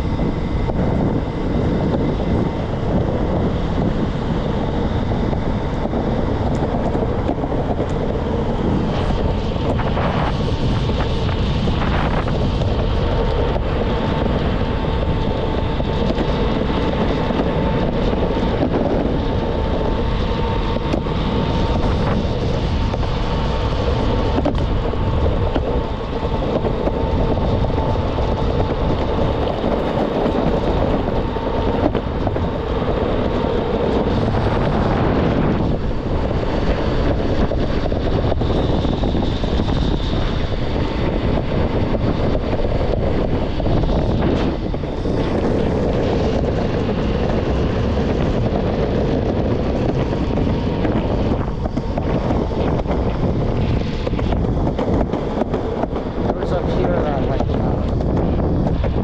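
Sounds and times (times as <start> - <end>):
low rolling road noise: 0.0 - 59.0
thin steady whine: 0.0 - 59.0
wind rushing over microphone: 0.0 - 59.0.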